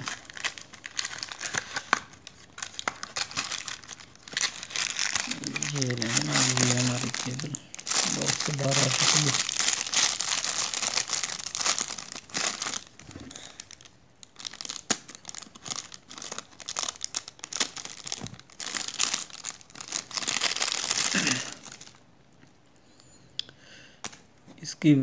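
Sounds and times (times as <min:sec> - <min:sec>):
plastic wrapper crinkling: 0:00.0 - 0:22.0.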